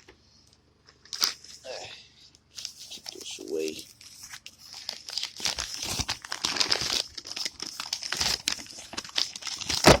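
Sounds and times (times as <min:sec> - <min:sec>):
packaging crinkling: 0:01.0 - 0:01.6, 0:02.5 - 0:10.0.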